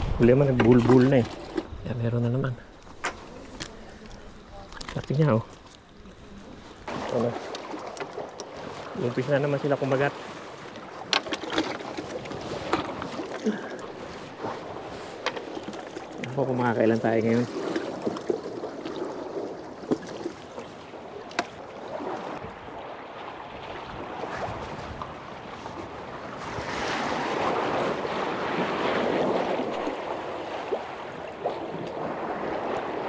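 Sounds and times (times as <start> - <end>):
sea water sloshing against pilings: 2.8 - 33.0.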